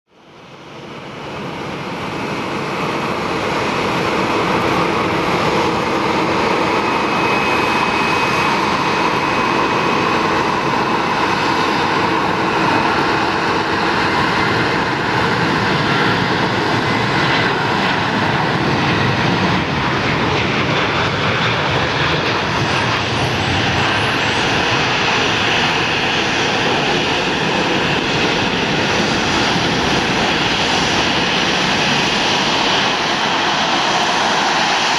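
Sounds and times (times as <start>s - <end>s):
jet engines at takeoff thrust: 0.1s - 34.9s.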